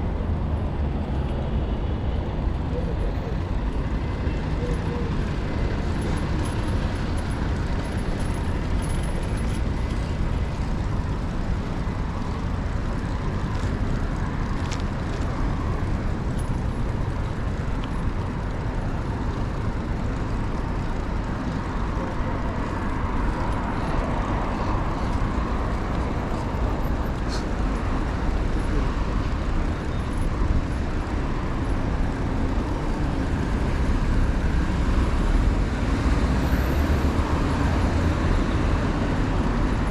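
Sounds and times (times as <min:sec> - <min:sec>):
cars passing: 0:00.0 - 0:39.9
low traffic rumble: 0:00.0 - 0:39.9.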